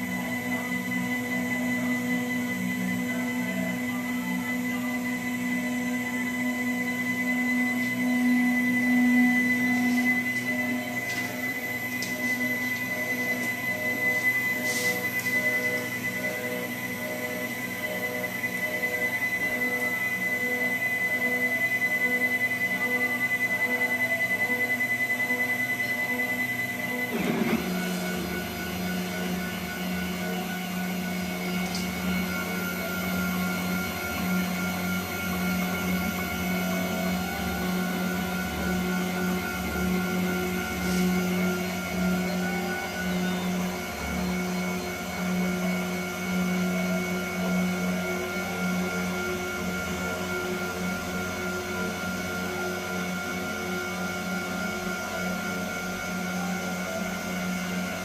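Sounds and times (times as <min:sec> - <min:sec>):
stepper motors whining: 0:00.0 - 0:58.0.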